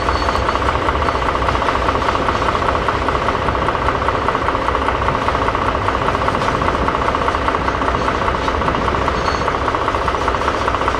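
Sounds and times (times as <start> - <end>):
diesel locomotive engine running: 0.0 - 10.9.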